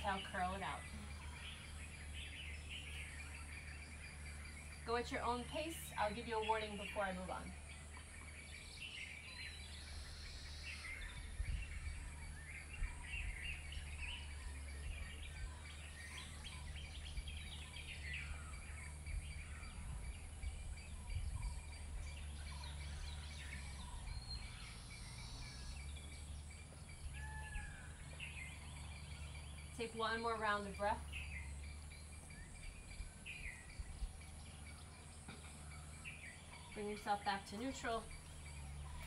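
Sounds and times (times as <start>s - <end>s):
birds chirping and calling: 0.0s - 39.0s
steady low hum: 0.0s - 39.0s.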